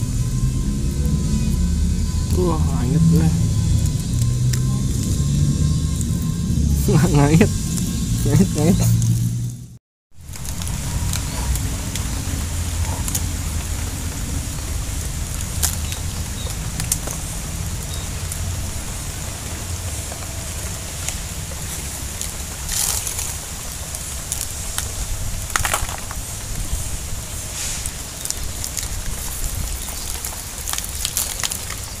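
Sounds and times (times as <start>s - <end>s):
rain on a pond and leaves: 0.0s - 9.5s, 10.2s - 32.0s
low rumble: 0.0s - 32.0s.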